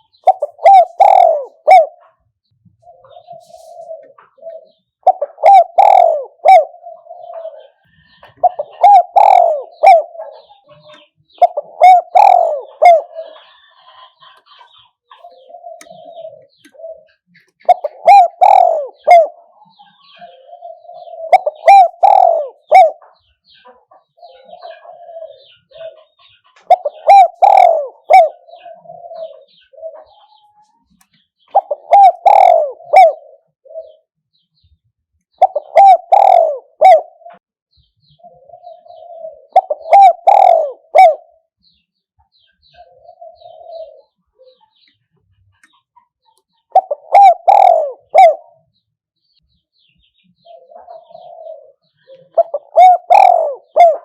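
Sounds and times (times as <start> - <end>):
dove cooing: 0.0 - 30.7, 31.4 - 34.1, 35.3 - 37.4, 38.1 - 41.5, 42.6 - 45.9, 46.6 - 48.7, 50.4 - 54.0
small birds chirping: 0.0 - 54.0.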